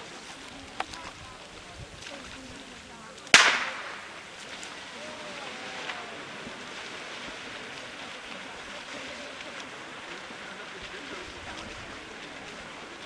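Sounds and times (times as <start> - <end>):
faint voices: 0.0 - 13.0
swimmers splashing: 0.0 - 13.0.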